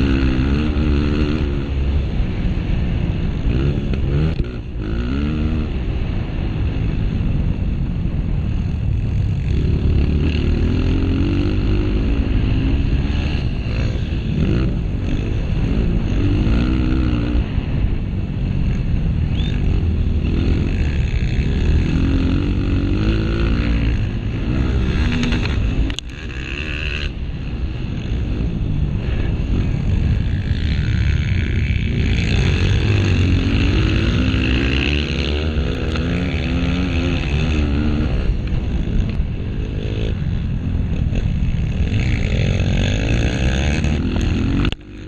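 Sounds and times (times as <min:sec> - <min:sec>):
motorcycle engine revving: 0:00.0 - 0:45.0
wind noise: 0:00.0 - 0:45.0.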